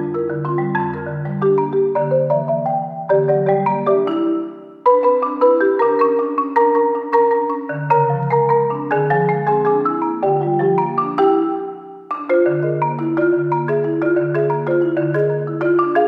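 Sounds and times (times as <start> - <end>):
marimba played with mallets: 0.0 - 16.0.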